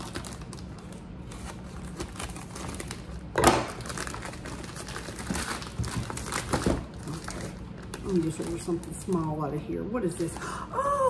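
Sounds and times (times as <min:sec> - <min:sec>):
plastic mailer bag crinkling: 0:00.0 - 0:10.4.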